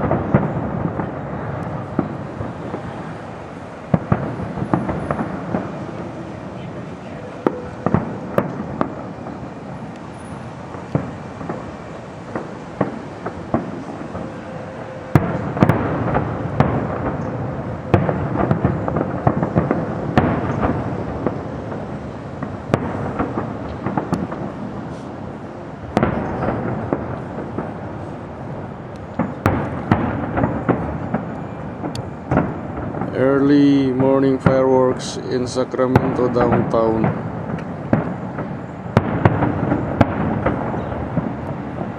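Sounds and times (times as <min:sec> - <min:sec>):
fireworks bangs and pops: 0:00.0 - 0:41.9.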